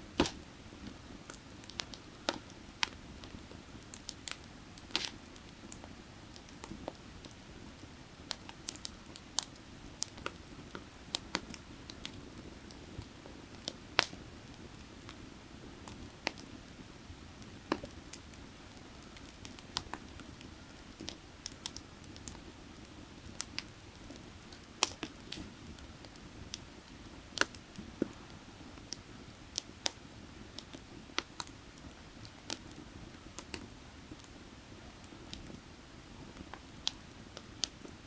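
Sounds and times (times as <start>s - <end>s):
firewood crackling and popping: 0.1s - 38.0s.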